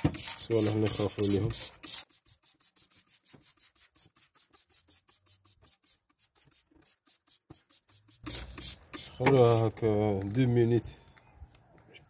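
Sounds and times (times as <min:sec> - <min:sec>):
spray bottle spritzes: 0:00.0 - 0:09.7.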